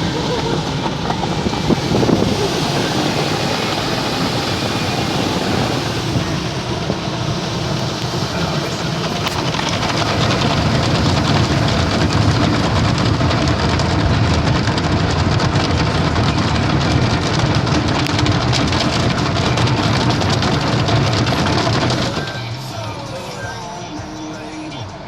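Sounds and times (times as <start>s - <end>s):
water spraying on car: 0.0s - 23.7s
car wash machinery rumble: 0.0s - 25.0s.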